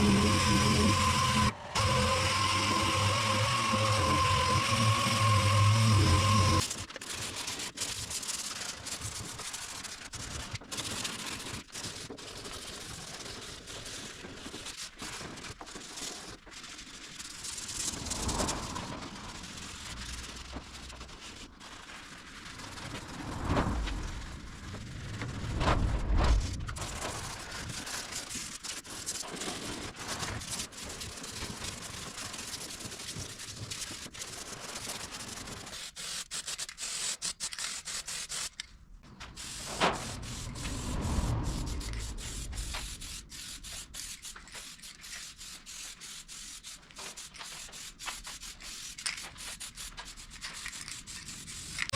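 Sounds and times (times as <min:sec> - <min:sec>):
sandpaper rubbing on metal: 0:00.0 - 0:18.0, 0:19.1 - 0:23.2, 0:26.8 - 0:38.6, 0:39.2 - 0:51.9.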